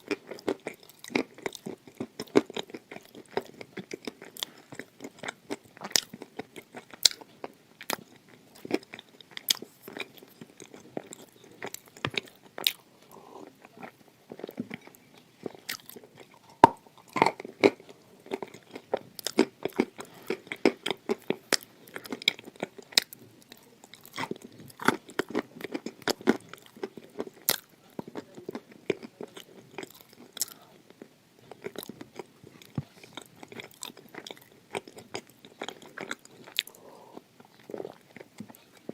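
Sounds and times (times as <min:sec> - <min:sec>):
chewing: 0:00.0 - 0:38.9.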